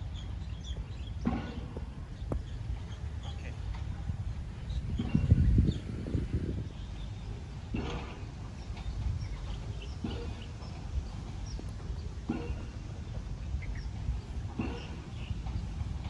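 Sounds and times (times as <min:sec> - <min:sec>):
birds calling: 0:00.0 - 0:16.0
wind rumbling on microphone: 0:00.0 - 0:16.0.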